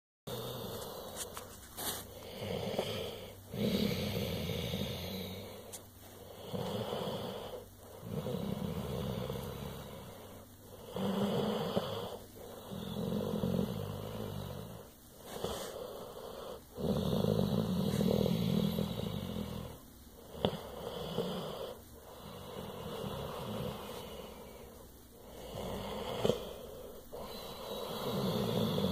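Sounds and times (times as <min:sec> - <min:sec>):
dog low snore-like rumble: 0:02.2 - 0:28.9.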